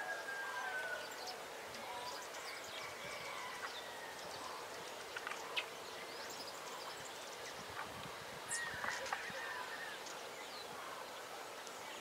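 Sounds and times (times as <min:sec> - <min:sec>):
birds chirping: 0:00.0 - 0:12.0
steady hiss: 0:00.0 - 0:12.0.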